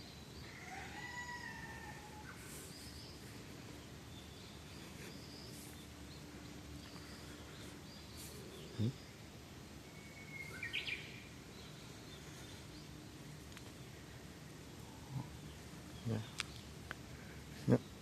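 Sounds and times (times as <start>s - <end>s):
faint bird calls: 0.0s - 18.0s
outdoor background hiss: 0.0s - 18.0s.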